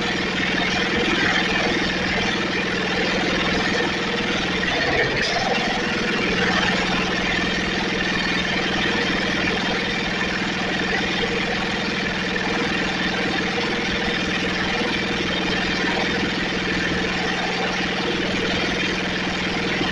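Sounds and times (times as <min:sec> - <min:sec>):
riding mower engine running: 0:00.0 - 0:19.9.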